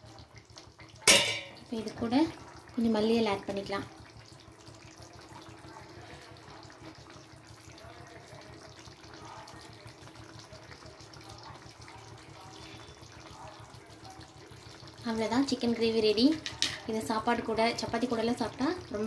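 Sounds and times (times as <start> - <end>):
gravy bubbling in a pan: 0.0 - 19.0.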